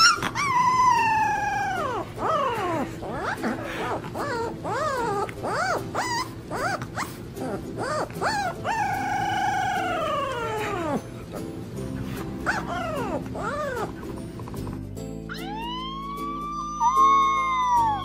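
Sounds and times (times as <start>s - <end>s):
puppy yelping and howling: 0.0s - 11.5s, 12.4s - 14.2s, 15.3s - 18.0s.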